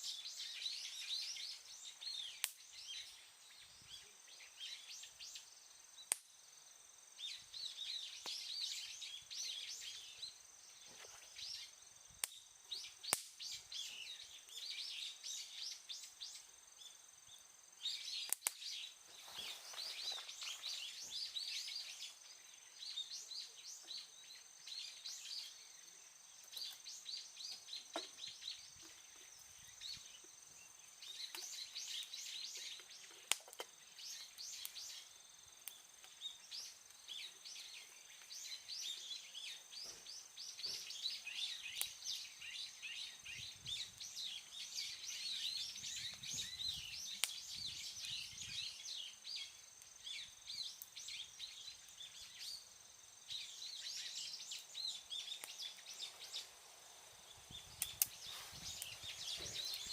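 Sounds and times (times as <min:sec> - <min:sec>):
birds chirping: 0:06.9 - 0:59.9.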